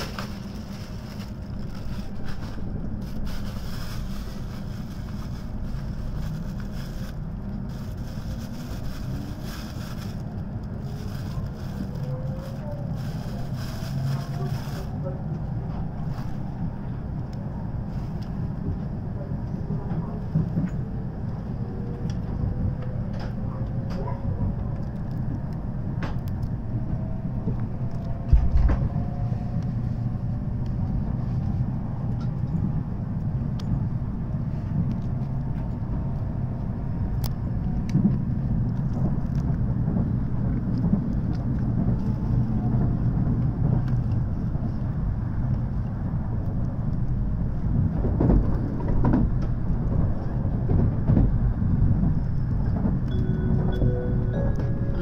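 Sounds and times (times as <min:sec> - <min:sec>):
low rumble of running train: 0:00.0 - 0:55.0.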